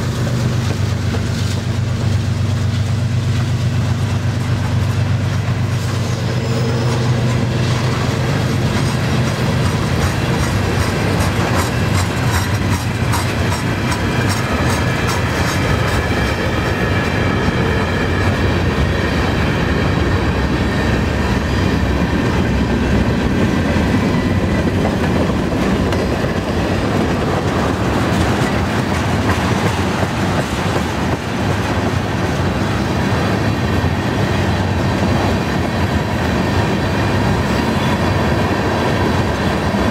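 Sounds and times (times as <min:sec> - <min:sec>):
train wheels clacking on rail joints: 0:00.0 - 0:39.9.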